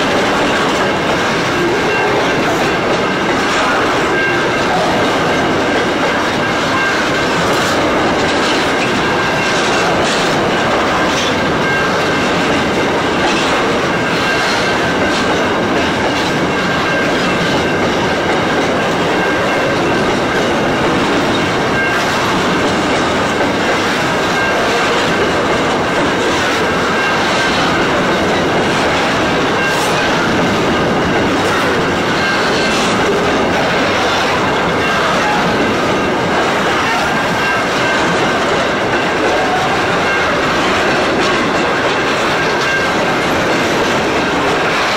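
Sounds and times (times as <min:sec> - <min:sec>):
train wheels rumbling on rails: 0:00.0 - 0:44.9
wheels clacking over rail joints: 0:00.0 - 0:44.9.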